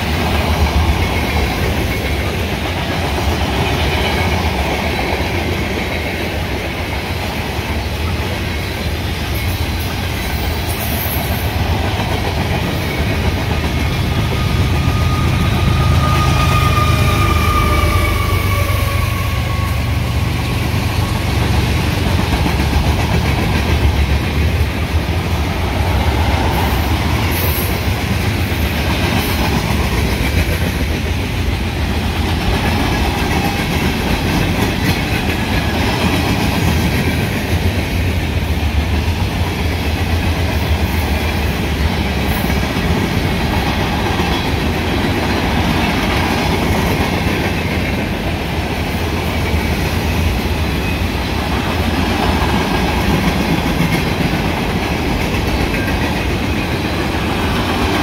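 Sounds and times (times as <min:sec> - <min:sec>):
freight train rolling past: 0:00.0 - 0:58.0
steel wheels rumbling on rails: 0:00.0 - 0:58.0.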